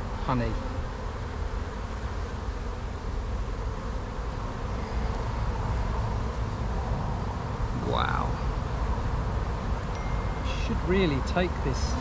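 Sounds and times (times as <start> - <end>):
honey bees buzzing: 0.0 - 7.8, 8.4 - 12.0.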